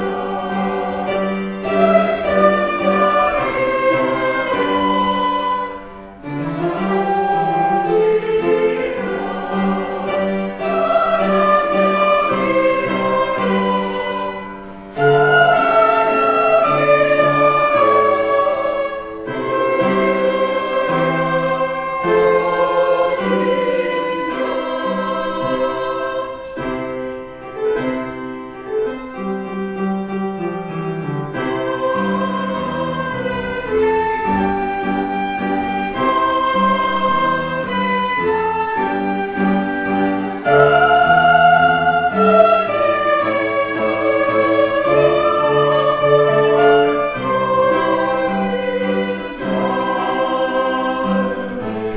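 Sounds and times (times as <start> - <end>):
church choir singing: 0.0 - 51.9.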